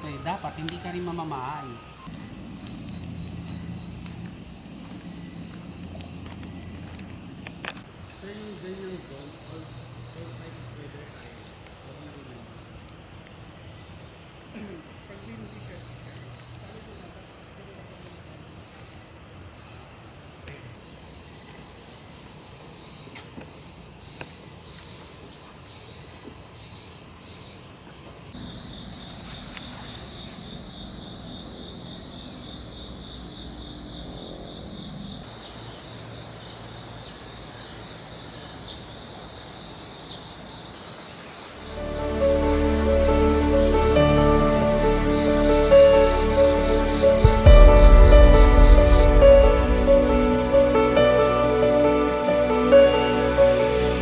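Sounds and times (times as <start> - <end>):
insects trilling: 0.0 - 47.6.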